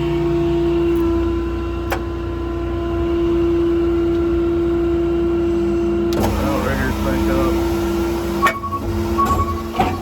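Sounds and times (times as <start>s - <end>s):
diesel engine rumble: 0.0s - 10.0s
hydraulic pump whine: 0.0s - 10.0s.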